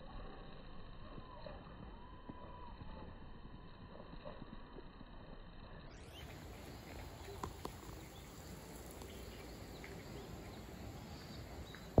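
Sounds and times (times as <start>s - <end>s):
low steady rumble: 0.0s - 12.0s
faint bird chirps: 0.2s - 4.4s, 5.6s - 12.0s.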